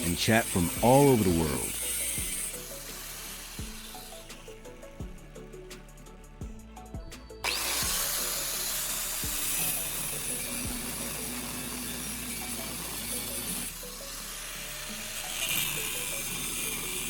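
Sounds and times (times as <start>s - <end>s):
angle grinder cutting metal: 0.0s - 6.2s, 7.4s - 17.0s
background music: 0.0s - 17.0s.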